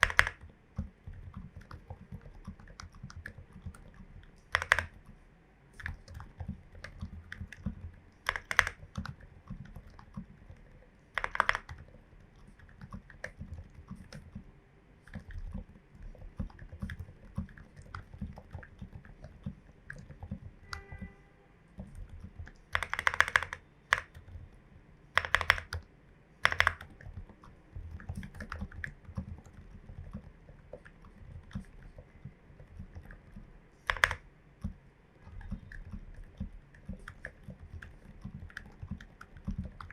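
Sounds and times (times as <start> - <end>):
mechanical keyboard typing: 0.0 - 5.2, 5.8 - 14.5, 15.1 - 21.2, 21.8 - 39.9.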